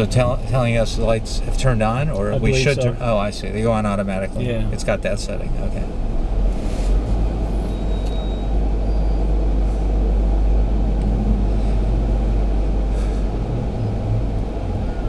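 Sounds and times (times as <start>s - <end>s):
car engine rumbling inside cabin: 0.0s - 15.0s.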